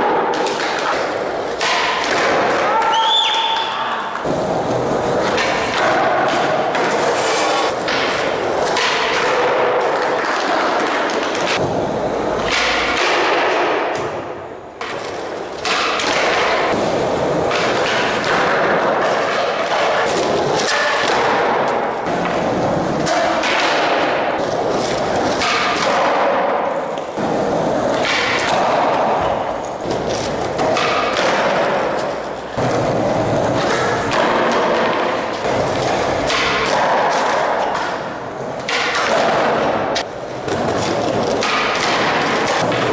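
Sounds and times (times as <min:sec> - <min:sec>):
skateboard thuds: 0:00.0 - 0:03.3, 0:04.2 - 0:42.9
skateboard wheels rolling on concrete: 0:00.0 - 0:42.9.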